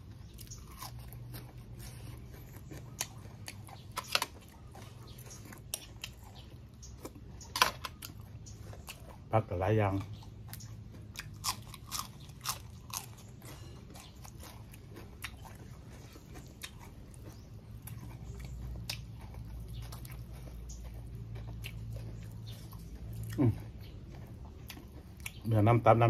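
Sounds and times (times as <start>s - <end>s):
crunching raw vegetable leaves: 0.0s - 26.0s.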